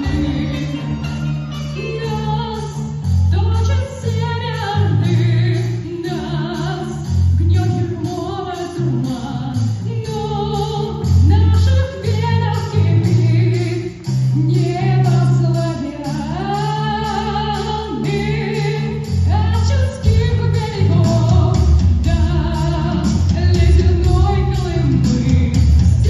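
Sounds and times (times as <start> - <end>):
bass line: 0.0 - 26.0
steady drum beat: 0.0 - 26.0.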